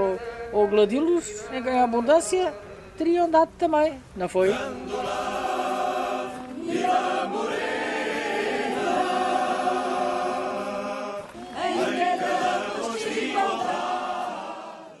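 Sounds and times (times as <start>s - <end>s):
group singing unaccompanied: 0.0s - 3.0s, 4.4s - 15.0s.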